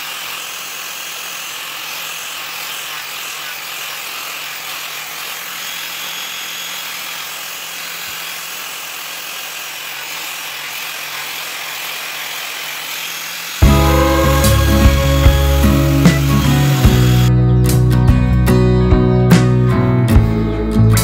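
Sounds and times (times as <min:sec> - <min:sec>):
angle grinder on steel: 0:00.0 - 0:17.3.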